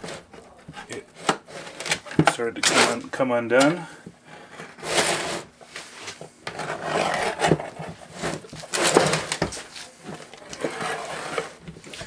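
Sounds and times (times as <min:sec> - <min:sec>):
packaging scraping and rustling: 0:00.0 - 0:03.1, 0:04.4 - 0:12.0.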